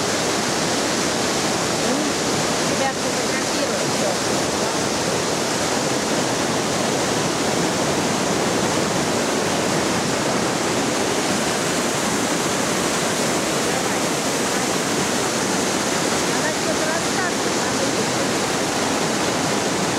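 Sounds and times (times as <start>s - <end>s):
water rushing over rocks: 0.0s - 19.9s.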